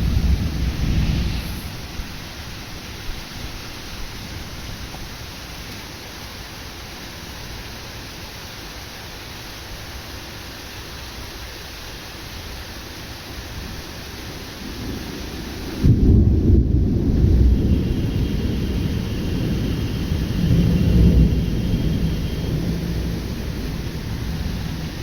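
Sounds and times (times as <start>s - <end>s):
heavy rain hiss: 0.0s - 25.0s.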